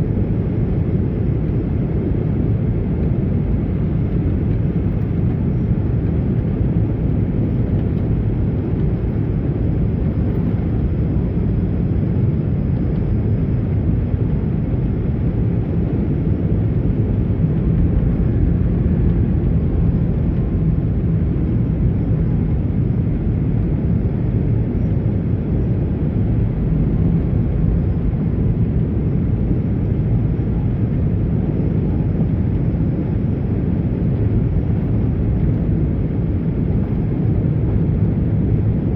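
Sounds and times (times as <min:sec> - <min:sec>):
airliner landing rumble: 0:00.0 - 0:38.9.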